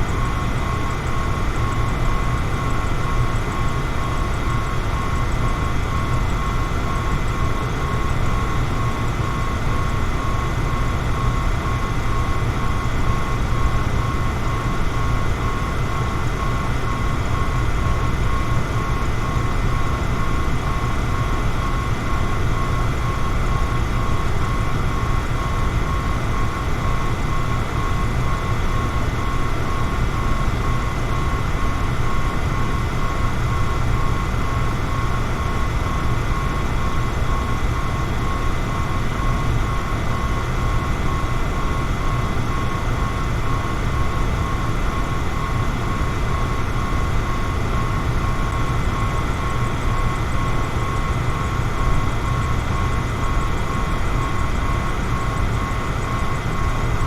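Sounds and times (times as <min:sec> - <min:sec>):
electric fan running: 0:00.0 - 0:57.0.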